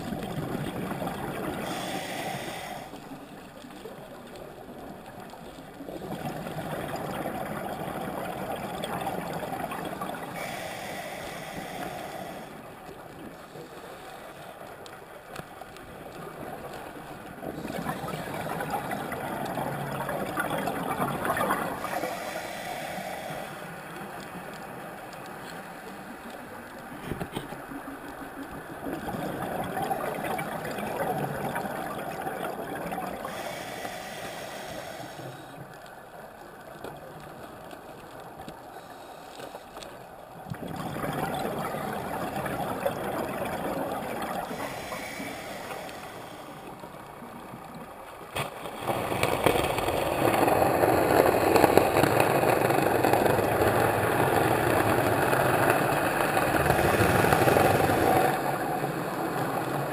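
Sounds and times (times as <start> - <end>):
gurgling exhaled bubbles underwater: 0.0 - 13.6, 15.8 - 35.7, 40.3 - 59.9.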